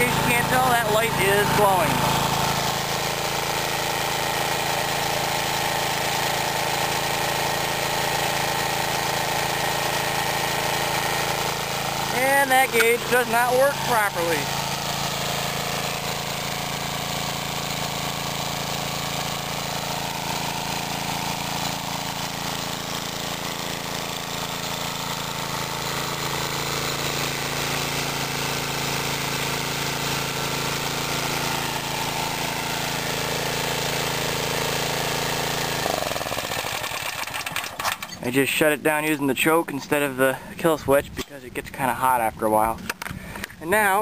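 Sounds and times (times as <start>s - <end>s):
single-cylinder gas engine running: 0.0s - 38.8s, 42.9s - 44.0s.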